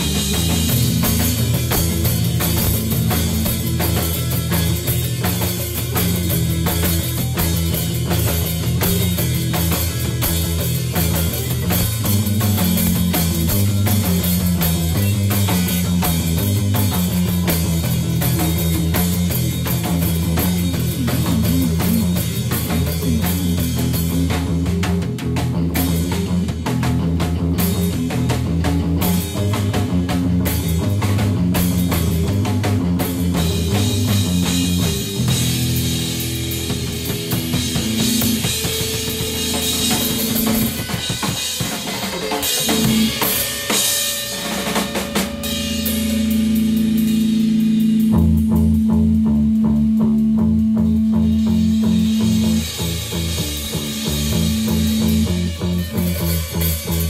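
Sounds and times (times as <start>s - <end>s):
sustained guitar notes: 0.0s - 41.6s, 42.6s - 57.0s
fast drumming: 0.0s - 57.0s.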